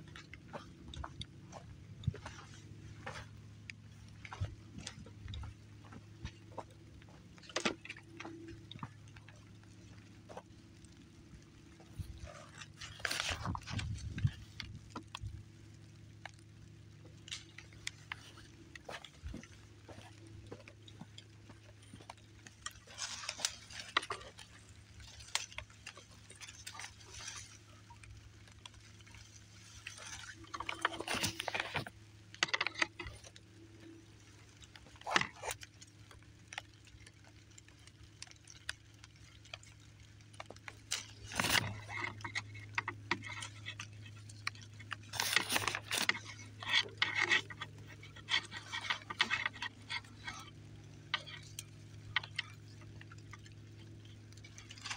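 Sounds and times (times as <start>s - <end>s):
bushes rustling and snapping: 0.0s - 54.9s
steady low hum: 0.0s - 54.9s.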